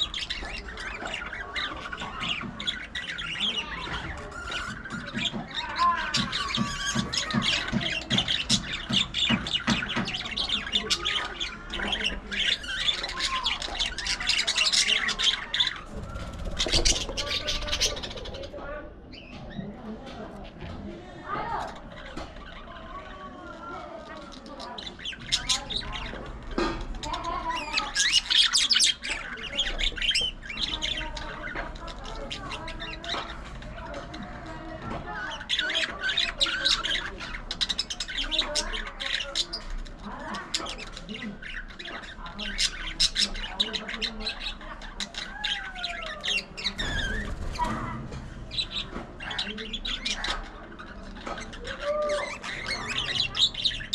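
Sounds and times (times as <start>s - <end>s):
budgerigars chattering: 0.0s - 19.6s, 21.4s - 53.9s.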